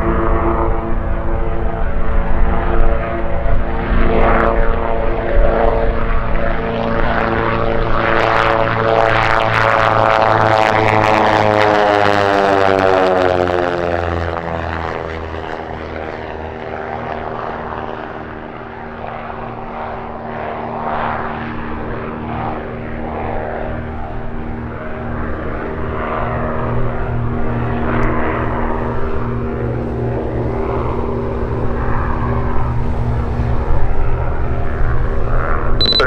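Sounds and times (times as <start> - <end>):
propeller plane engines passing: 0.0 - 36.0.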